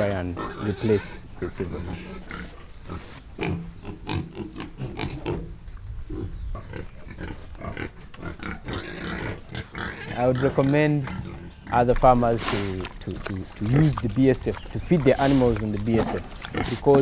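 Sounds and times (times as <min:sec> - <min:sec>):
pigs grunting: 0:00.0 - 0:17.0.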